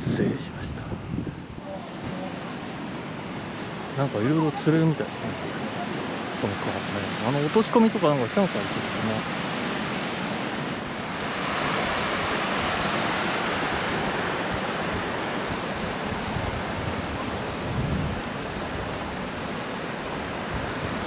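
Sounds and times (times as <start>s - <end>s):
river water rushing: 1.4s - 21.0s.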